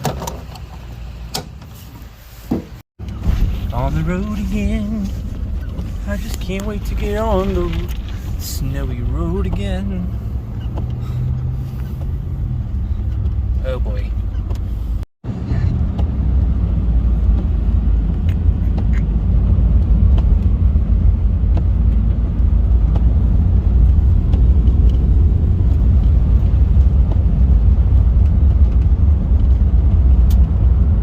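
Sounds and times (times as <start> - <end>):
car road rumble on snow: 0.0 - 31.0.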